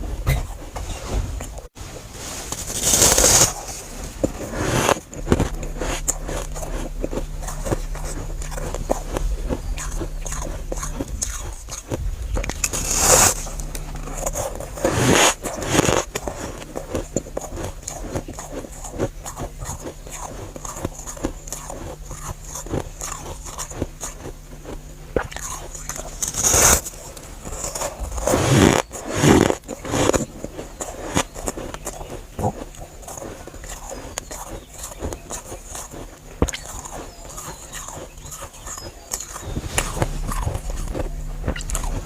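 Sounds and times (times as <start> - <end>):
crunchy chewing of frost: 0.0 - 42.0.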